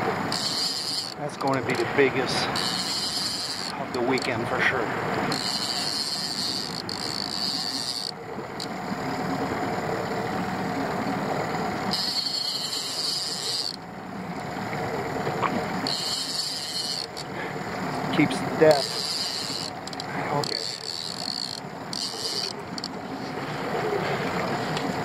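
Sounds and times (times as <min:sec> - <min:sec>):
outboard motor running: 0:00.0 - 0:25.0
water noise: 0:00.0 - 0:25.0.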